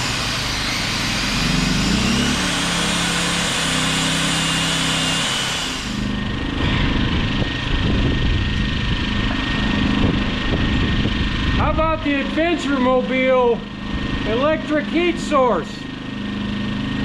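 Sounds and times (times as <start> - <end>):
generator engine hum: 0.0 - 17.0.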